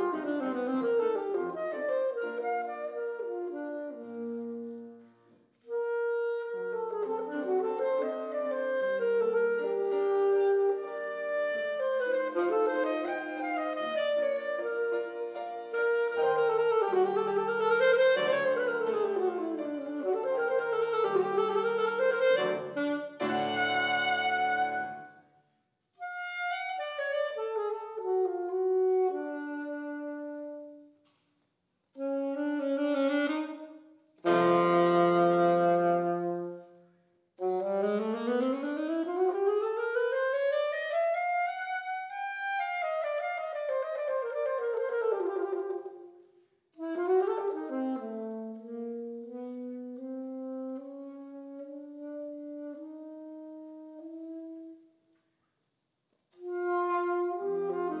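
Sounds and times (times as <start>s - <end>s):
alto saxophone playing: 0.0s - 31.0s, 32.0s - 55.1s, 56.3s - 58.0s.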